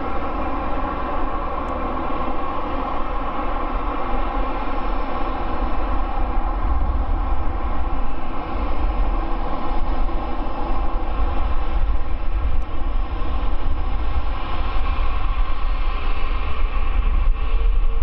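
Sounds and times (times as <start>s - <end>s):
jet engine whine: 0.0s - 18.0s.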